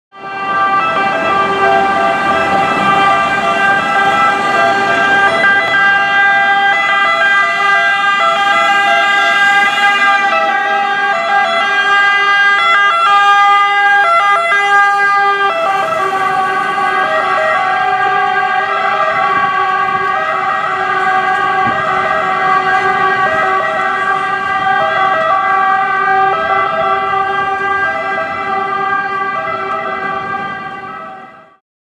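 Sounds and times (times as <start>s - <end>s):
fire truck sirens: 0.1s - 31.6s
truck engine: 0.2s - 31.3s.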